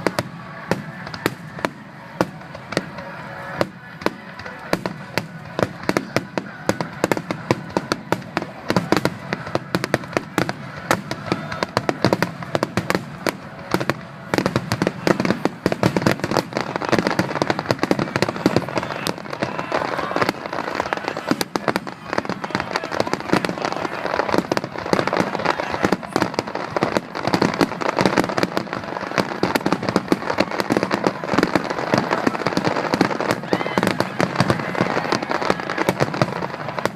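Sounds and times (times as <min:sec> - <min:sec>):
crowd voices: 0:00.0 - 0:36.9
fireworks bangs and crackling: 0:00.0 - 0:36.9.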